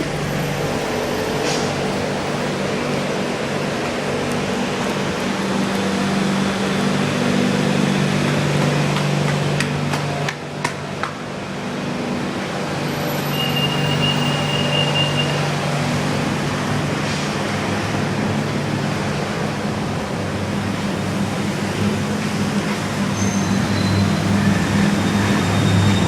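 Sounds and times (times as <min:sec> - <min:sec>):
train car rumble and hum: 0:00.0 - 0:26.0.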